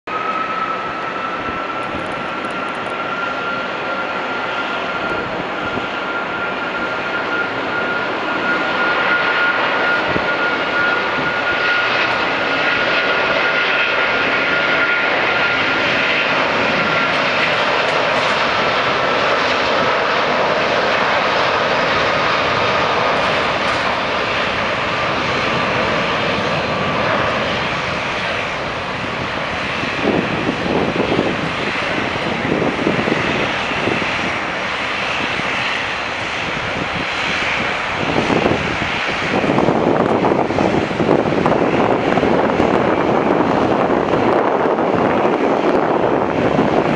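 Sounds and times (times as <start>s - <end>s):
jet engine roar: 0.0s - 46.9s
high jet whine: 0.1s - 46.9s.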